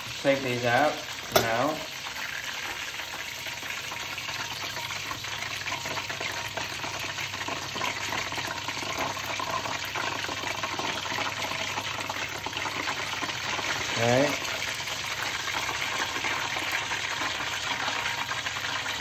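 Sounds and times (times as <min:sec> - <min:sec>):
oil sizzling in deep fryer: 0:00.0 - 0:19.0.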